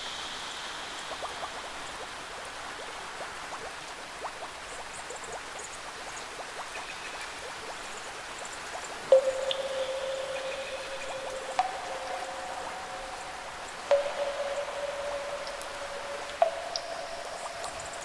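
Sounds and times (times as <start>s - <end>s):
rain falling: 0.0s - 18.0s
drips ticking: 0.7s - 18.0s.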